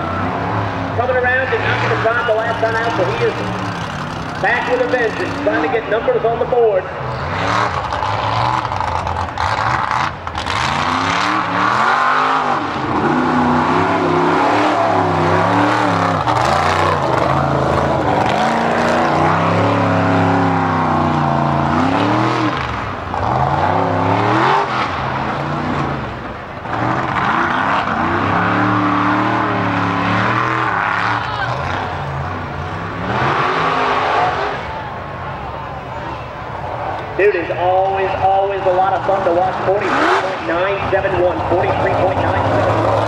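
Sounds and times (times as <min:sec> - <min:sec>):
buggy engine revving: 0:00.0 - 0:35.5, 0:36.9 - 0:43.0.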